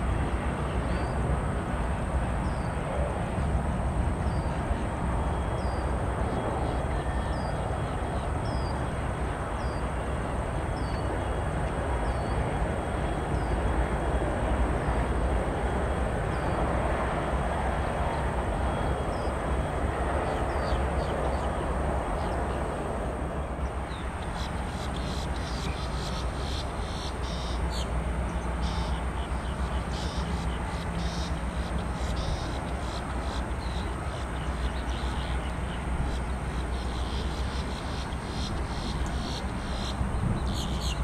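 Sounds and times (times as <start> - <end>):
distant jet engines roaring: 0.0 - 41.0.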